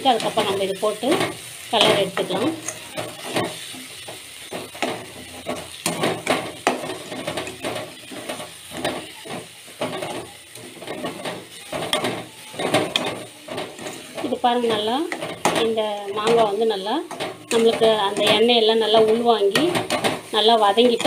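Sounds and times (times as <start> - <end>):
light sizzle: 0.0 - 21.0
metal spoon scraping a pan: 0.0 - 21.0.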